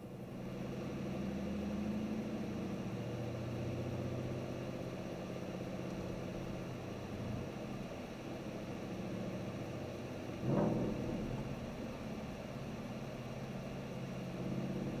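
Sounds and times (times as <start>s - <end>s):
car engine drone inside cabin: 0.0s - 15.0s.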